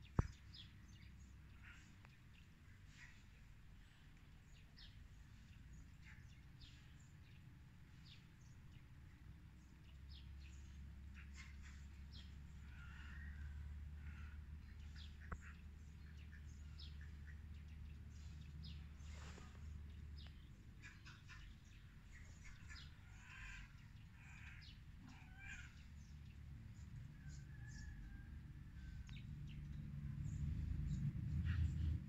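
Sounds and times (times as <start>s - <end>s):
small birds chirping: 0.0s - 28.2s
low steady rumble: 0.0s - 32.0s.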